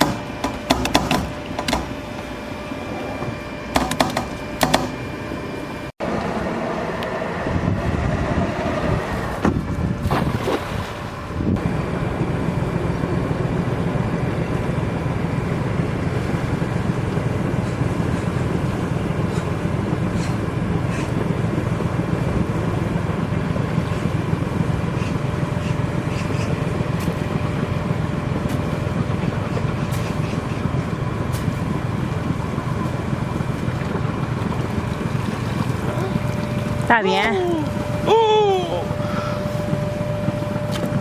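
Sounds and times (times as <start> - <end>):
small boat motor humming: 0.0 - 41.0.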